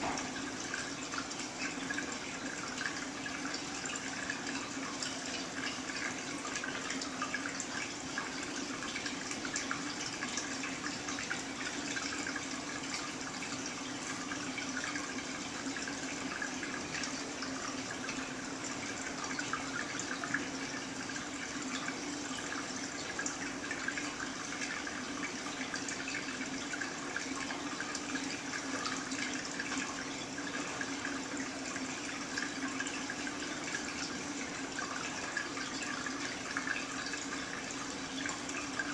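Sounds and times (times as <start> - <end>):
water trickling in fish tank: 0.0 - 38.9.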